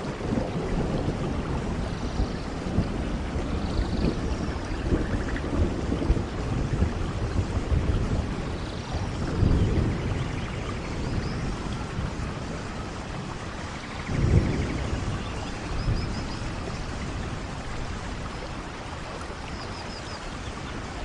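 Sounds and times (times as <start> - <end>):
low rumble of thunder: 0.0 - 21.0
steady rain: 0.0 - 21.0.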